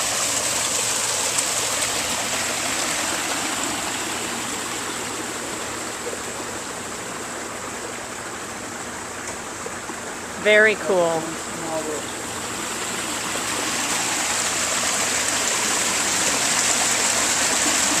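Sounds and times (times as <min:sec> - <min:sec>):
waterfall pouring into pond: 0:00.0 - 0:18.0.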